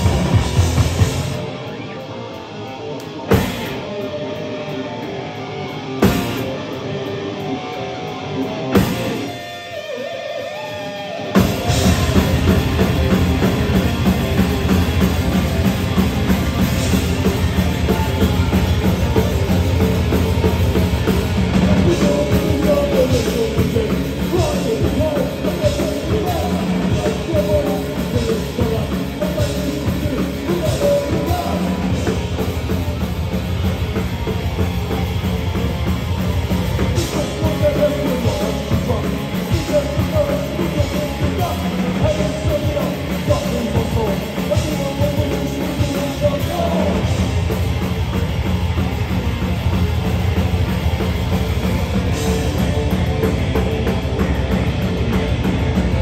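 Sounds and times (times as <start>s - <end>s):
drum kit beating: 0.0s - 1.5s, 3.3s - 4.0s, 6.0s - 6.6s, 8.7s - 9.7s, 11.3s - 56.0s
rock band playing live: 0.0s - 56.0s.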